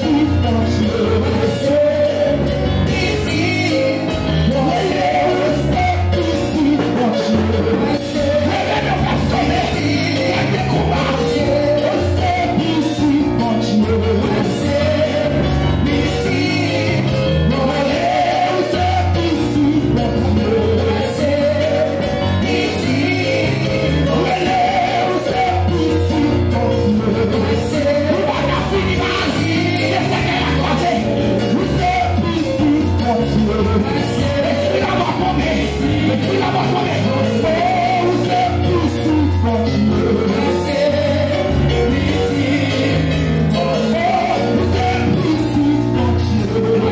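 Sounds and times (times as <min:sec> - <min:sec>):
bass line: 0:00.0 - 0:46.9
voices singing: 0:00.0 - 0:46.9.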